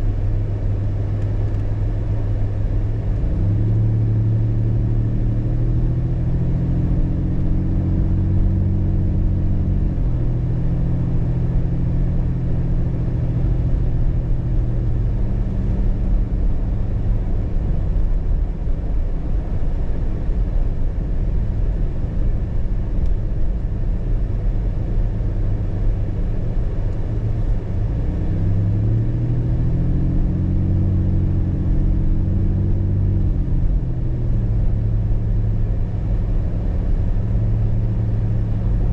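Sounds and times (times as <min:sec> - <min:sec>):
car engine drone: 0:00.0 - 0:38.9
road rumble: 0:00.0 - 0:38.9.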